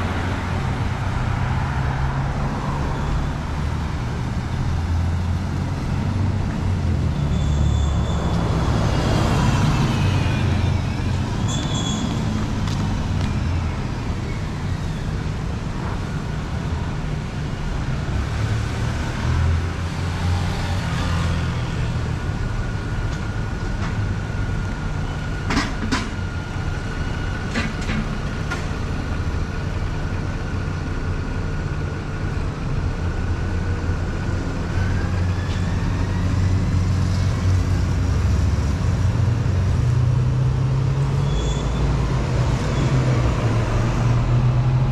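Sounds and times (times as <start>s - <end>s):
road traffic engine rumble: 0.0s - 44.9s.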